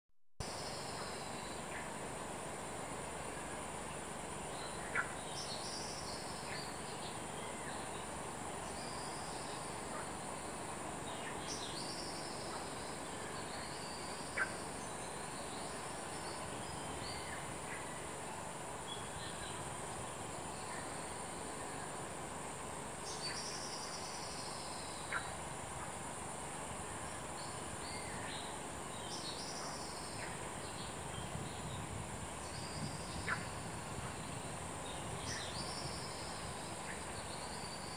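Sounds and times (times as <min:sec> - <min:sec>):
constant hiss: 0:00.4 - 0:37.9
high insect drone: 0:00.4 - 0:37.9.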